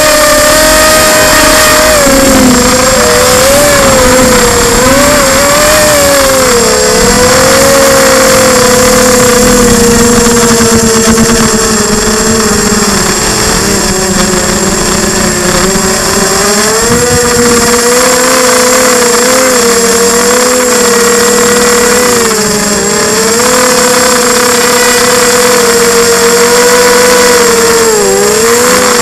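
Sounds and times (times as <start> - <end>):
drone propellers whirring: 0.0 - 29.0.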